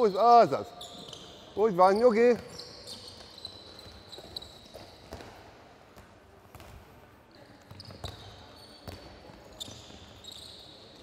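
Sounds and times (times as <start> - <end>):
shoes squeaking on court: 0.0 - 5.5, 7.3 - 11.0.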